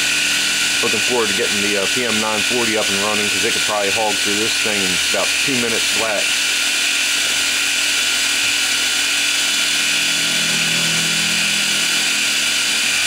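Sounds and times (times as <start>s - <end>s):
milling machine cutting metal: 0.0s - 13.0s.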